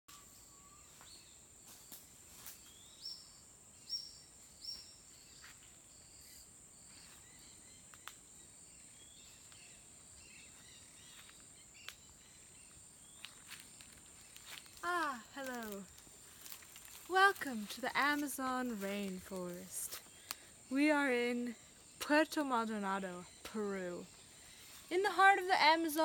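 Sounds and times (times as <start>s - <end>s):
bird calls: 2.4s - 26.0s.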